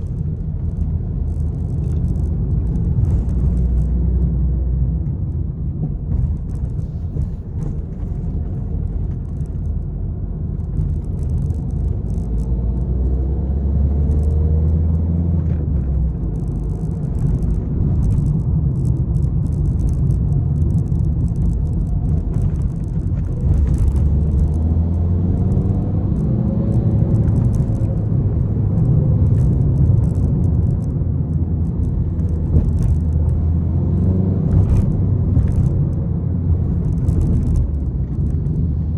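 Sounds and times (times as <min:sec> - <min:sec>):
rattles and clicks: 0:00.0 - 0:13.3, 0:13.9 - 0:38.9
car engine accelerating: 0:00.0 - 0:38.9
road and tyre rumble: 0:00.0 - 0:38.9.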